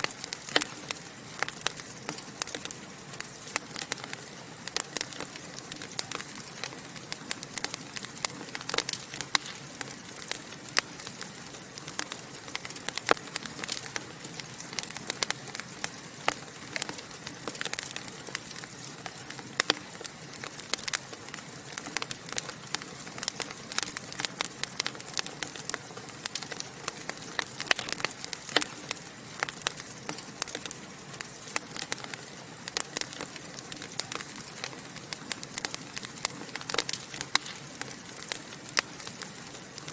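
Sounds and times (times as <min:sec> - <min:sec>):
soft hiss of flame: 0:00.0 - 0:39.9
wood fire crackling and popping: 0:00.0 - 0:39.9.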